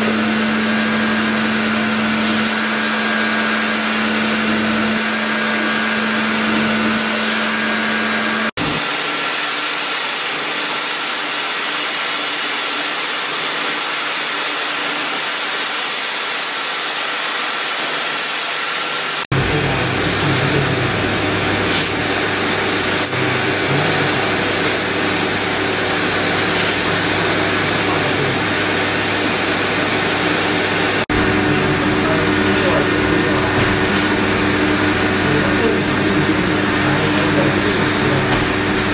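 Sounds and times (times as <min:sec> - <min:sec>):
rotary carving tool whirring: 0:00.0 - 0:38.9.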